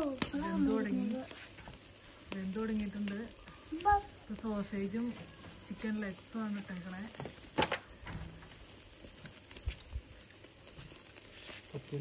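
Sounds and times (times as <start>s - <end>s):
meat sizzling on a barbecue: 0.0s - 12.0s.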